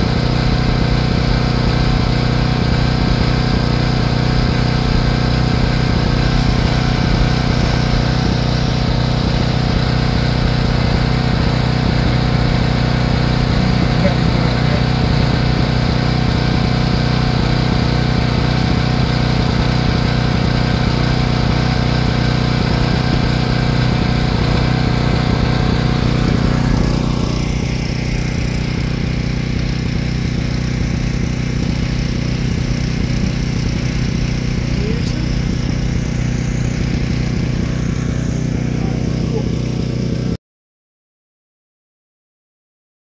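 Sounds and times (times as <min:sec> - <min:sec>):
car engine running: 0:00.0 - 0:40.4.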